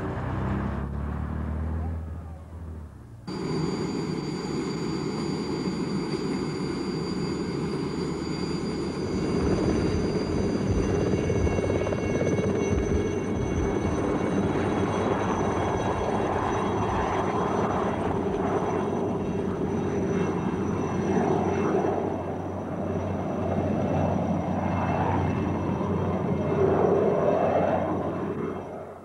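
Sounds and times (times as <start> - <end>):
helicopter turbine whine: 2.1 - 29.0
helicopter rotor beat: 3.3 - 29.0.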